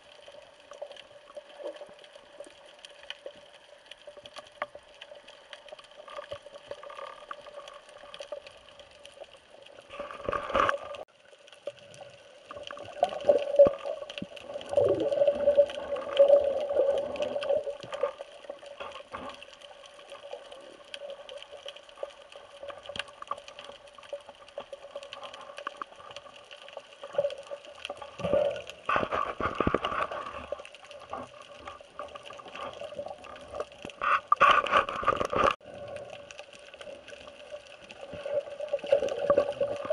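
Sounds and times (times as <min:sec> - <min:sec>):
swishes of moving water: 0:00.0 - 0:39.9.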